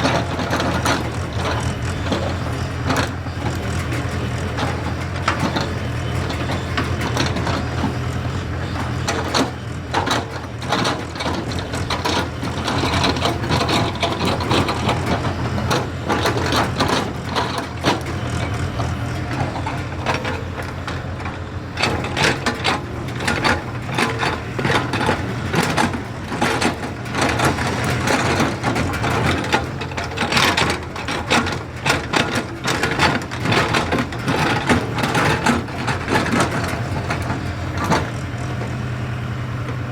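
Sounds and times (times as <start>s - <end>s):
excavator diesel engine running: 0.0s - 39.9s
knocks clanks and rattles: 0.0s - 39.9s.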